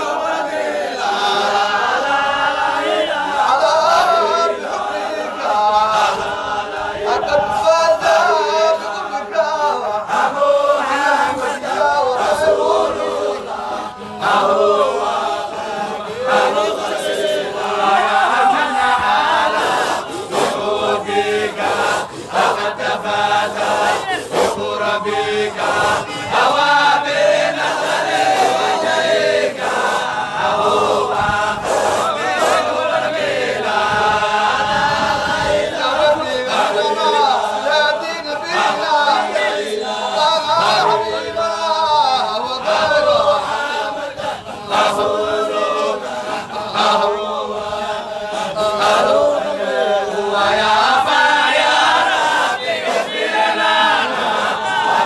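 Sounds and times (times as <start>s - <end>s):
group of voices chanting: 0.0s - 55.0s.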